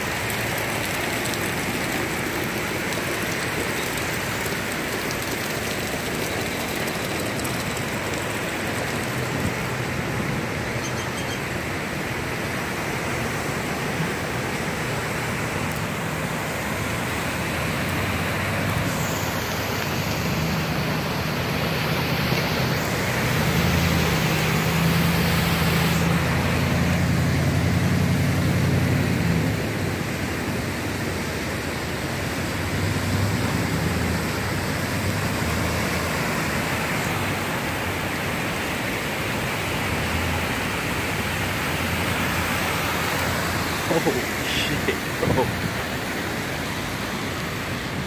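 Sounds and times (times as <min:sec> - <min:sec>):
rain: 0:00.0 - 0:48.0
running floodwater: 0:00.0 - 0:48.0
vehicle driving through water: 0:00.0 - 0:48.0.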